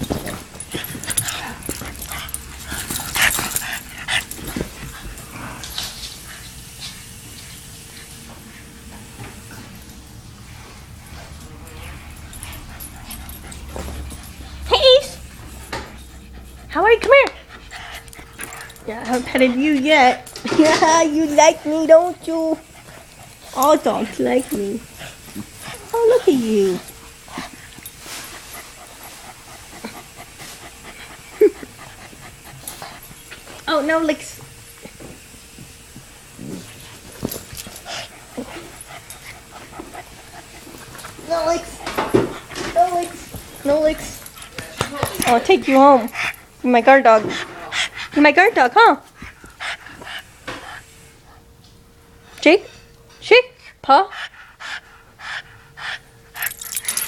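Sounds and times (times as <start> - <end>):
dog panting rapidly: 0.0 - 35.0, 35.6 - 51.4, 53.6 - 57.0.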